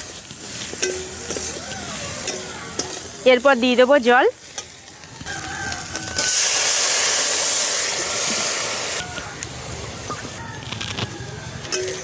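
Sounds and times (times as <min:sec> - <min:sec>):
pan hissing and sizzling: 0:00.0 - 0:12.0.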